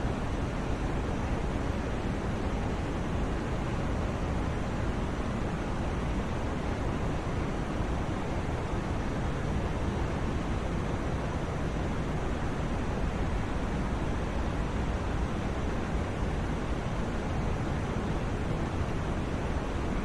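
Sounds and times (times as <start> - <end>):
deep white noise hiss: 0.0 - 20.0.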